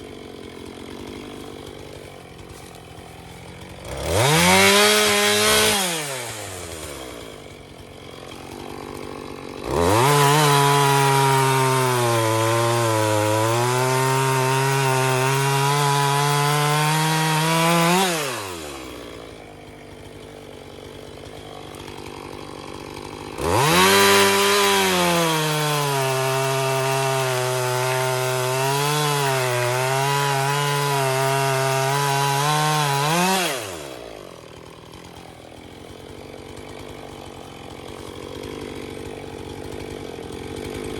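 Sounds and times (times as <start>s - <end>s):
chainsaw cutting wood: 0.0s - 40.9s
chainsaw idling and revving: 0.0s - 40.9s.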